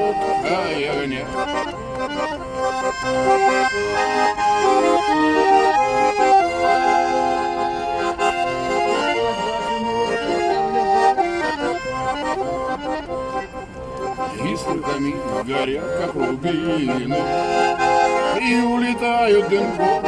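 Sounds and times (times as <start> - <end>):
button accordion waltz melody: 0.0 - 20.0.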